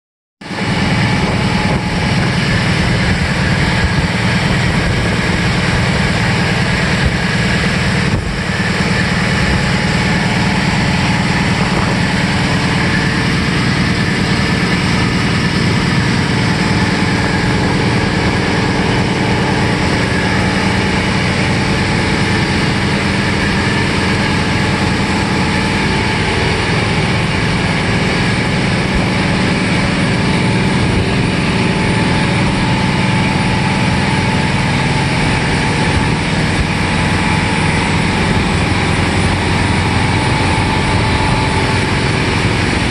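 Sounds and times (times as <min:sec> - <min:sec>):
engine running: 0:00.4 - 0:42.9.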